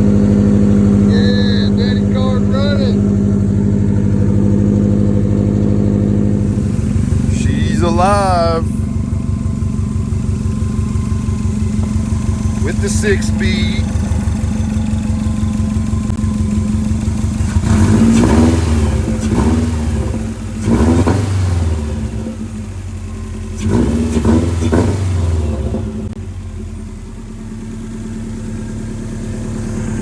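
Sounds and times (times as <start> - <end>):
turbocharged car engine revving and idling: 0.0 - 30.0.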